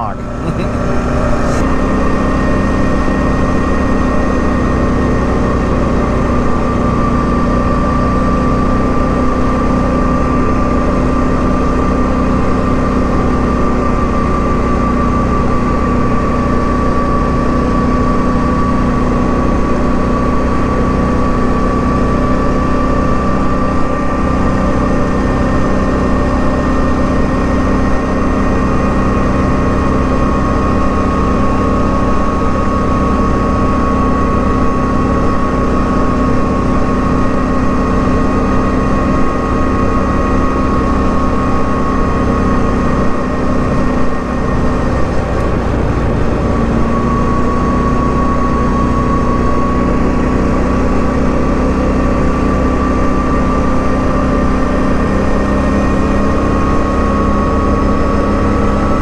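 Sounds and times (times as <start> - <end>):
atv engine droning: 0.0 - 59.0
high whine: 0.0 - 59.0.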